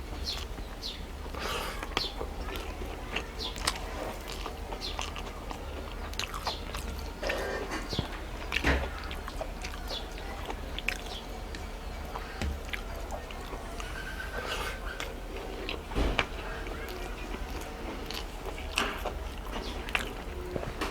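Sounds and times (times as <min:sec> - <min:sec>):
person chewing: 0:00.3 - 0:20.8.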